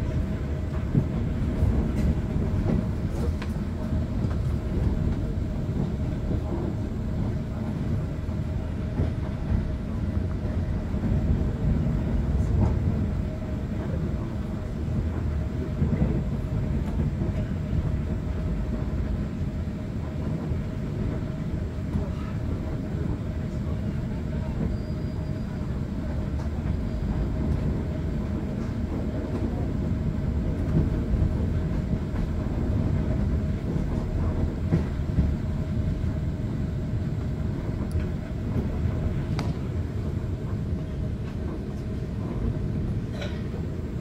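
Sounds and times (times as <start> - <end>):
train rumble inside carriage: 0.0 - 44.0
light track clicks: 0.1 - 7.9, 13.7 - 35.4, 37.2 - 43.7.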